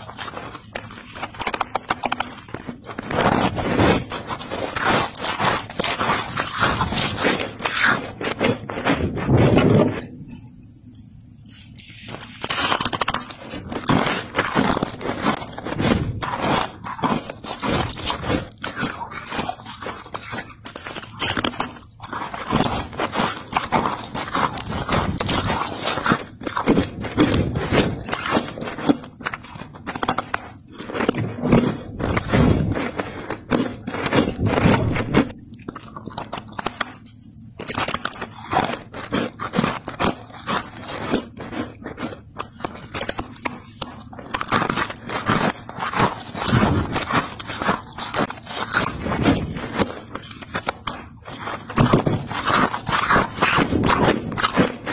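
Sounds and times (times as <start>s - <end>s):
frost crunching: 0.0s - 54.9s.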